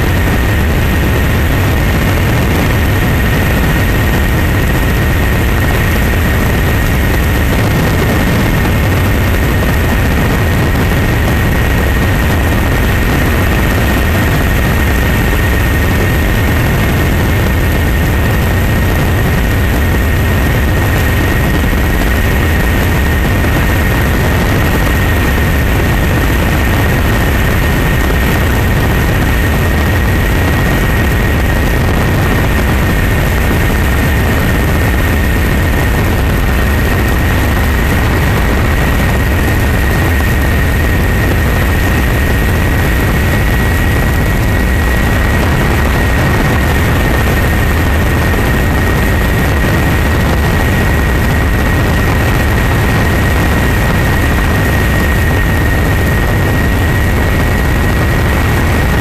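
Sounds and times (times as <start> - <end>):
helicopter engine and rotor noise: 0.0 - 59.0.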